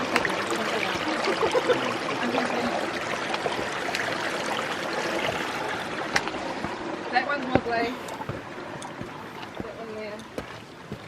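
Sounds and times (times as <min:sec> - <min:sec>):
stream water over rocks: 0:00.0 - 0:11.0.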